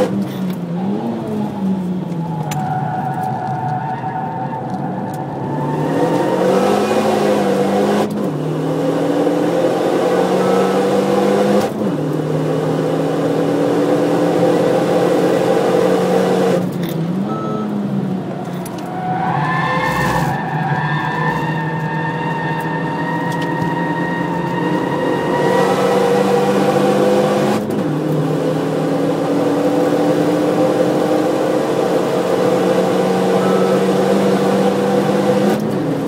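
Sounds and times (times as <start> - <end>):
car engine accelerating hard: 0.0 - 36.0.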